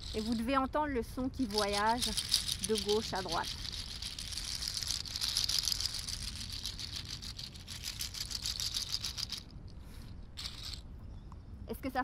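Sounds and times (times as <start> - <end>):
handheld rattle shaken: 0.0 - 0.5, 1.4 - 10.8.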